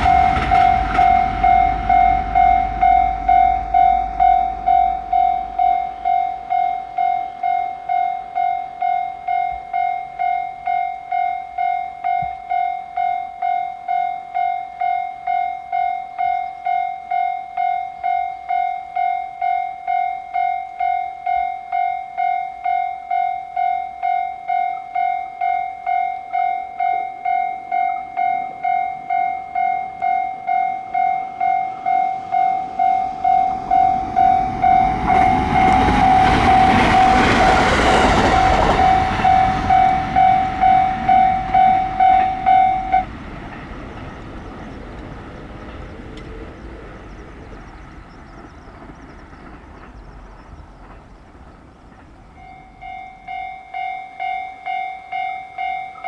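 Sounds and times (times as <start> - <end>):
level-crossing warning bell: 0.0 - 56.0
train low rumble: 0.0 - 56.0.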